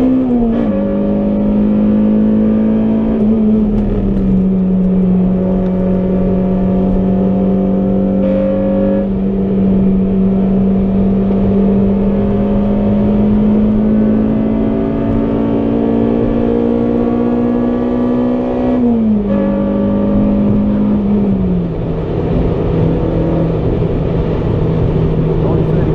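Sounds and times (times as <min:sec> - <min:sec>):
car engine from inside cabin: 0:00.0 - 0:25.9
wind and road noise: 0:00.0 - 0:25.9.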